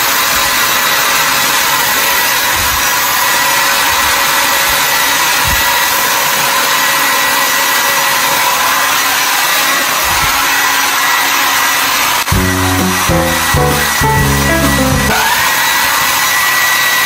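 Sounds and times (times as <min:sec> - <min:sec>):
hair dryer blowing air: 0:00.0 - 0:13.1, 0:15.1 - 0:17.0.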